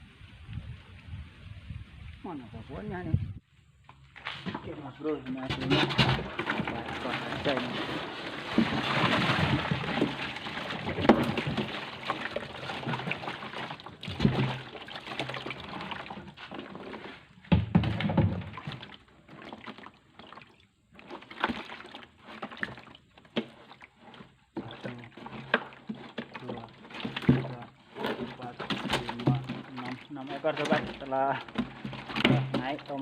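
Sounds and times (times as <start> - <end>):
water sloshing and splashing: 4.1 - 33.0.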